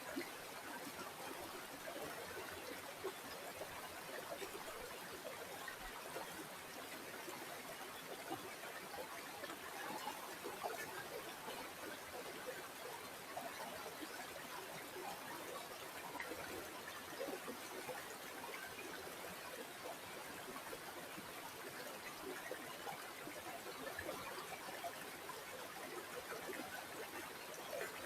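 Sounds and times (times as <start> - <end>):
river water flowing and gurgling: 0.0 - 28.0.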